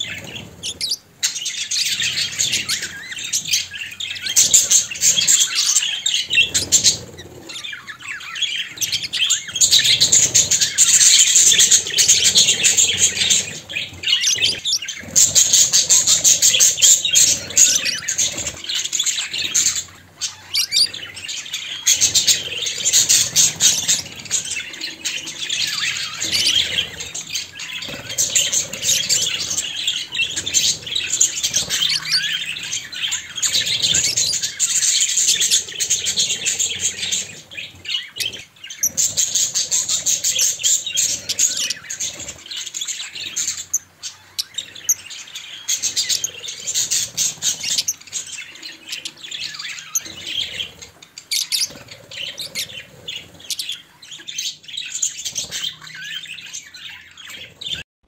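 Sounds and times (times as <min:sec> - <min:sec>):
budgerigars chattering: 0:00.0 - 0:57.8.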